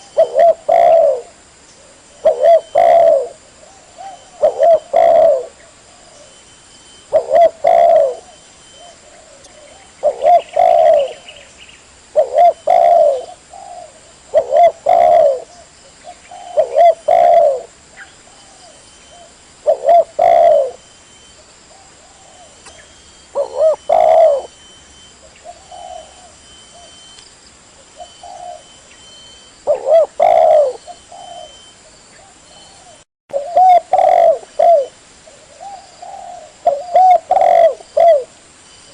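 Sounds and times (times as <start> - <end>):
dove cooing: 0.0 - 11.5, 12.1 - 20.9, 21.7 - 27.1, 27.8 - 38.4.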